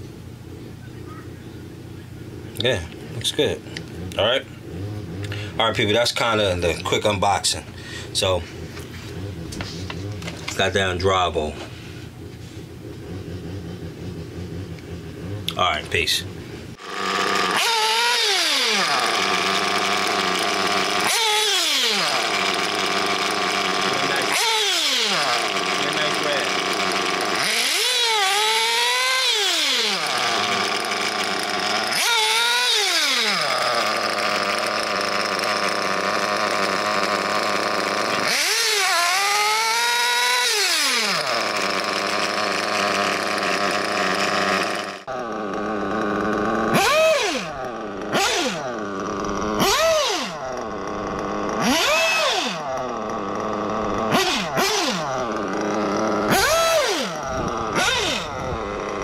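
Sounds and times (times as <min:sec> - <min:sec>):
rc buggy engine revving: 0:00.0 - 0:59.0.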